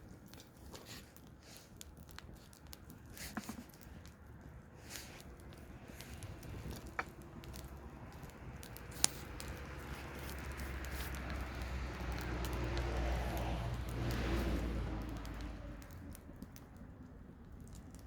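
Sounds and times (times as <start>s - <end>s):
campfire crackling: 0.0s - 18.0s
low rumble with rushing hiss: 1.8s - 18.0s.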